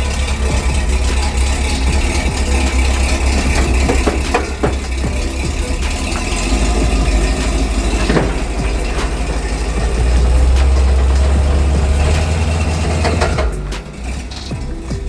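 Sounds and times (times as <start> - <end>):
pickup truck engine rumbling: 0.0 - 15.0.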